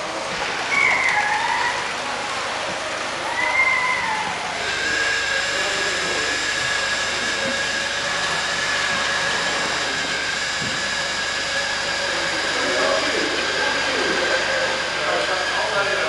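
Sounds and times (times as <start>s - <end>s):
model train motor whine: 0.0s - 16.0s.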